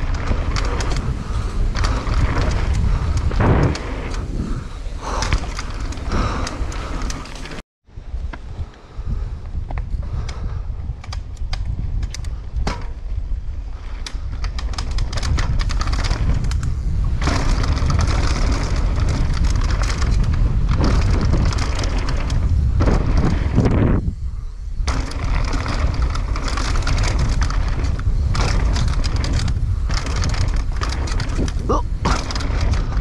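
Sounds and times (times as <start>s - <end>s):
bike rattles and knocks: 0.0s - 7.6s, 9.5s - 33.0s
wind buffeting microphone: 0.0s - 33.0s.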